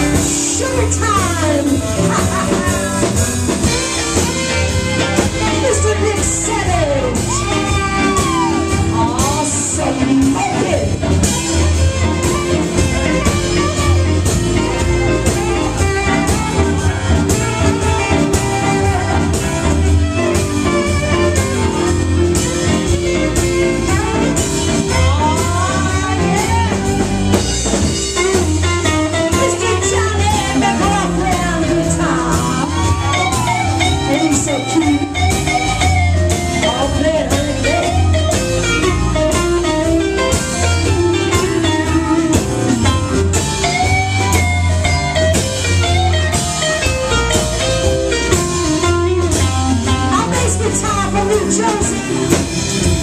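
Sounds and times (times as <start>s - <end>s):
live blues band playing: 0.0s - 53.0s
saxophone solo: 0.0s - 53.0s.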